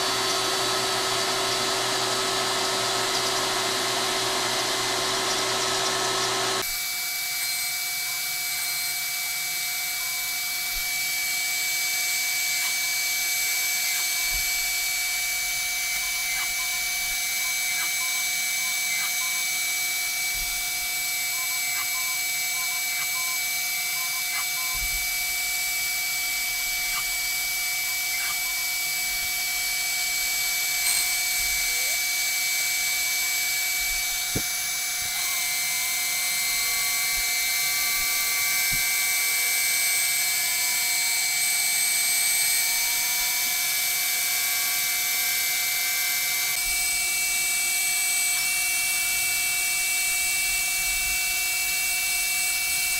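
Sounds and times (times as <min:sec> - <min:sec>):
router high whine: 0:00.0 - 0:52.9.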